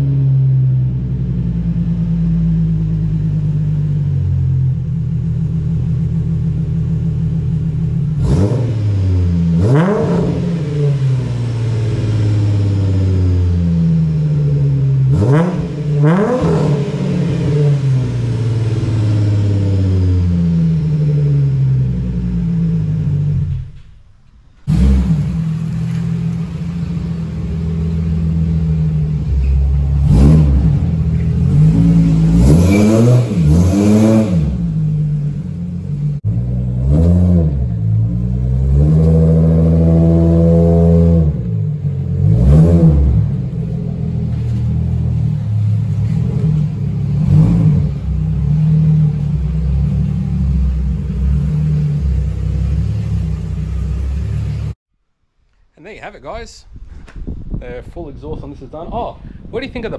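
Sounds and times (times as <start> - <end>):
car engine idling and revving: 0.0 - 54.8.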